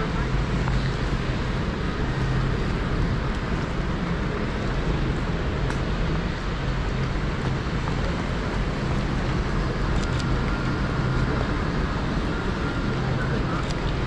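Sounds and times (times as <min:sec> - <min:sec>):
heavy rain: 0:00.0 - 0:14.0
low rumble of traffic: 0:00.0 - 0:14.0.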